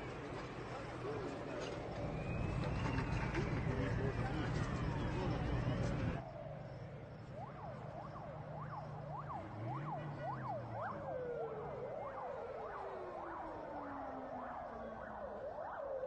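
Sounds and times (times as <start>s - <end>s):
siren yelping: 1.0s - 6.5s, 7.2s - 16.0s
lower siren tone sliding down: 1.7s - 16.0s.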